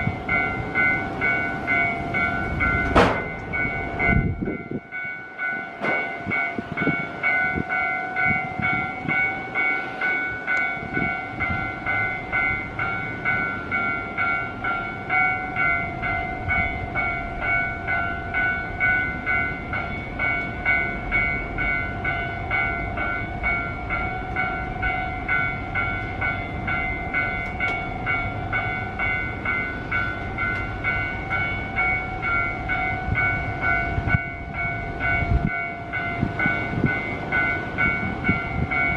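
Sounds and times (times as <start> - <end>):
level crossing warning bell: 0.0 - 38.9
wind buffeting microphone: 0.0 - 38.9.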